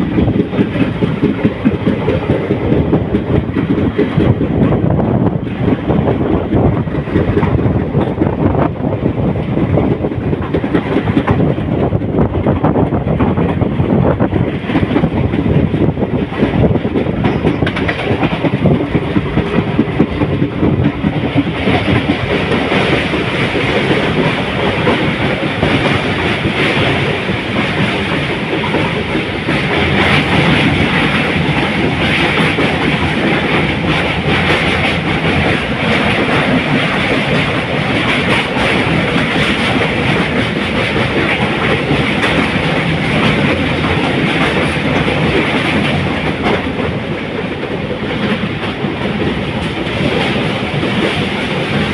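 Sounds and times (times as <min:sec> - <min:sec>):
train running noise: 0:00.0 - 0:51.9
train wheels clacking on rail joints: 0:00.0 - 0:51.9.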